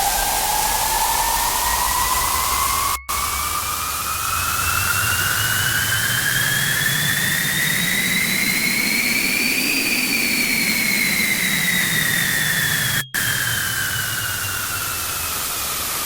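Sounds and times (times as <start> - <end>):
whistling tone rising and falling: 0.0 - 16.0.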